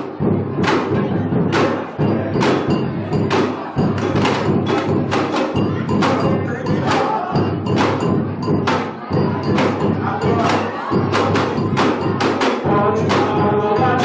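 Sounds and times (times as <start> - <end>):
percussion ensemble drumming: 0.0 - 14.0.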